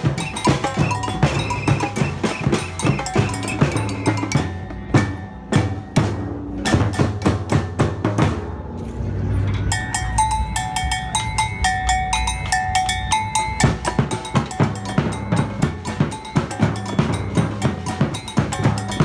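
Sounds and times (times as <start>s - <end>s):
ringing two-note bell pattern: 0.0s - 6.8s, 9.7s - 19.0s
samba drum line: 0.0s - 8.6s, 10.2s - 19.0s.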